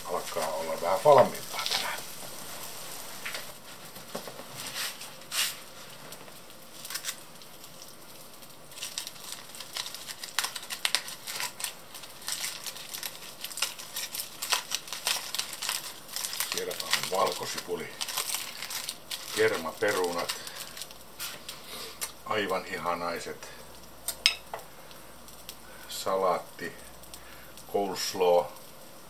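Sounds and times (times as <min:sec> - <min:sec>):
aluminium foil crinkling: 0:00.0 - 0:29.0
meat sizzling on a grill: 0:00.0 - 0:29.0.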